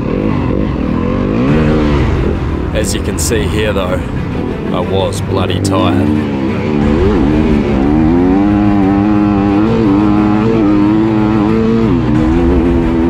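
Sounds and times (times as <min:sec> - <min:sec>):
dirt bike engine revving: 0:00.0 - 0:04.8, 0:05.6 - 0:13.0.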